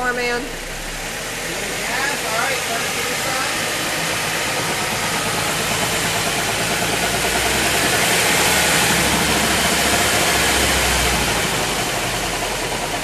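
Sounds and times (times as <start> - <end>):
wheel bearing humming: 0.0 - 13.0.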